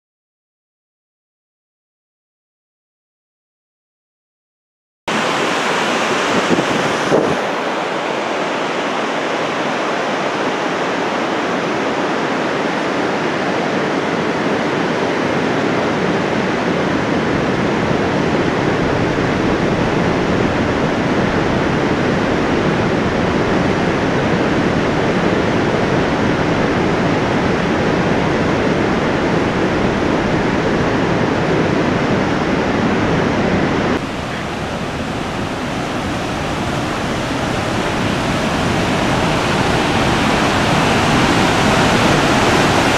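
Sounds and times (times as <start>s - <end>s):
waterfall roaring: 5.1s - 42.9s.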